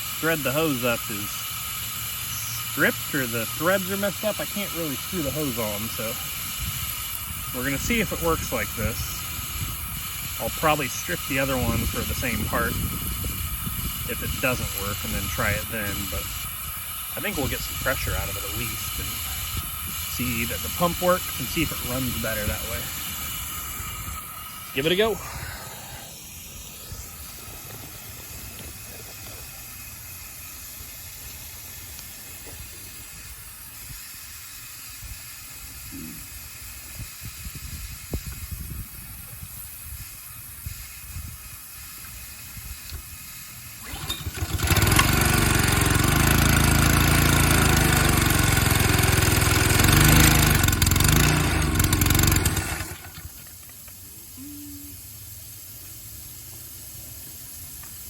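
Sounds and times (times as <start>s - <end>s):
faint hiss: 0.0s - 47.7s, 53.0s - 58.0s
pressure washer engine running: 0.0s - 54.3s.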